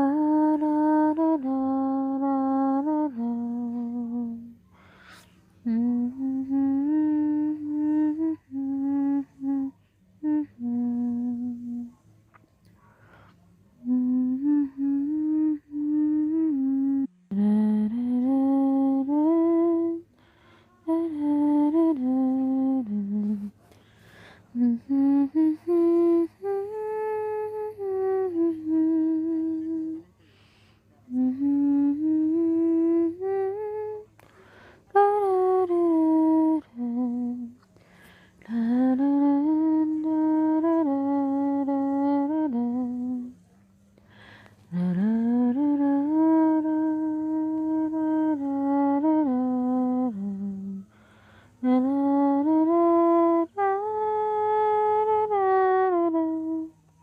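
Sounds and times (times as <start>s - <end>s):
woman humming a lullaby: 0.0s - 12.2s, 13.7s - 57.0s.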